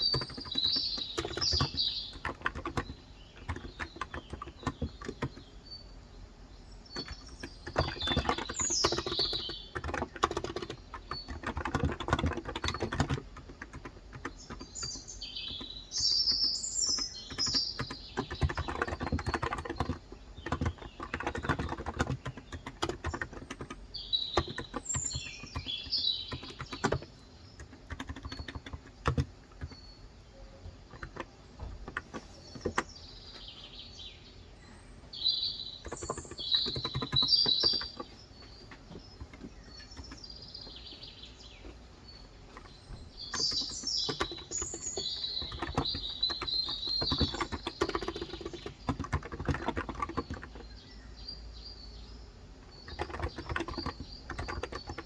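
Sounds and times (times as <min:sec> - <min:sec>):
birds twittering: 0:00.0 - 0:55.0.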